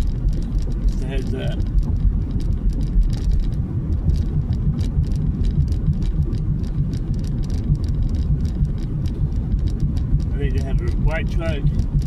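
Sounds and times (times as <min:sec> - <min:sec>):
light irregular ticks: 0:00.0 - 0:12.0
road and engine rumble: 0:00.0 - 0:12.0.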